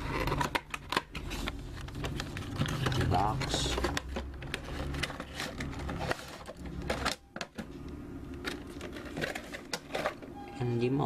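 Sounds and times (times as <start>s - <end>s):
plastic and cardboard crinkling: 0.0s - 10.3s
low steady hum: 0.0s - 11.0s.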